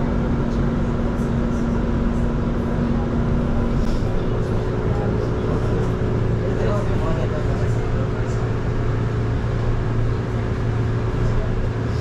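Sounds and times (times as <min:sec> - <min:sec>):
electric bus drive hum: 0:00.0 - 0:12.0.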